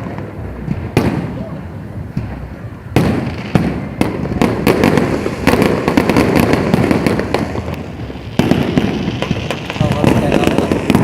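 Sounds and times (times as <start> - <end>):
firework bangs and booms: 0.0 - 11.0
fireworks crackling: 0.0 - 11.0.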